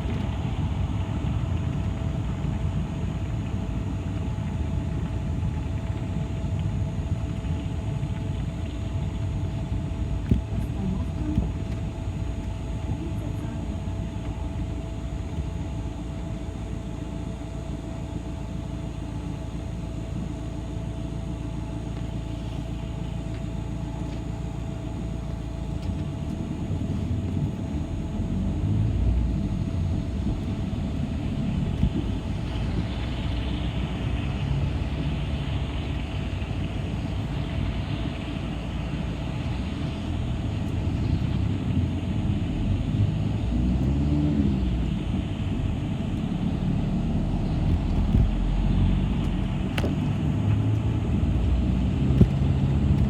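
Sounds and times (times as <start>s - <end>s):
bus engine and road rumble: 0.0s - 53.0s
constant whine: 0.0s - 53.0s.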